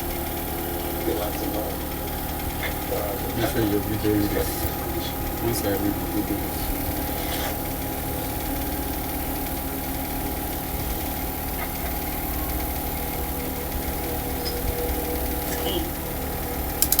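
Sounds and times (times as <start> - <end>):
motor-like hum with tones: 0.0 - 17.0.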